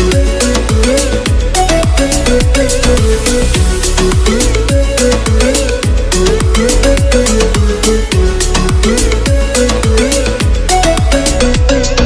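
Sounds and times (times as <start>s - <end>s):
electronic dance music: 0.0s - 12.0s
deep kick drum: 0.1s - 11.8s.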